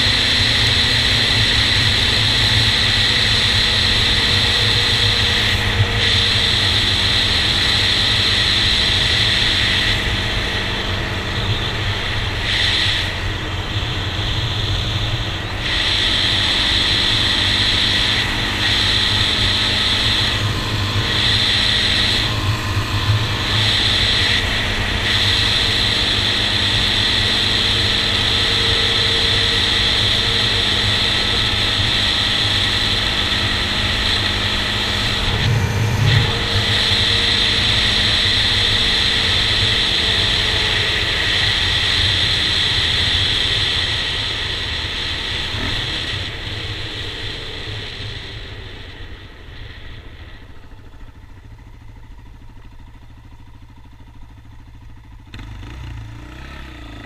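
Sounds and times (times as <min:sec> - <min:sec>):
quad engine running: 0:00.0 - 0:57.0
tyres on gravel road: 0:00.0 - 0:57.0
wind: 0:00.0 - 0:57.0.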